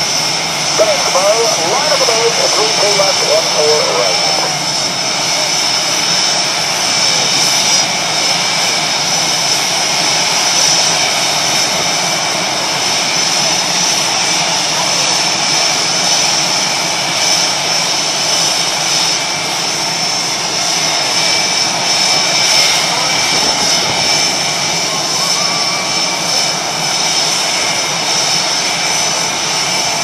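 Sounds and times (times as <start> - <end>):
jet engines idling: 0.0 - 30.0.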